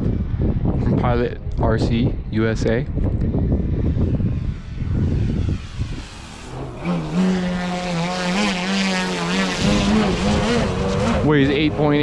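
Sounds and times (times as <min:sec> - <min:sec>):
model plane electric motor and propeller: 0:00.0 - 0:12.0.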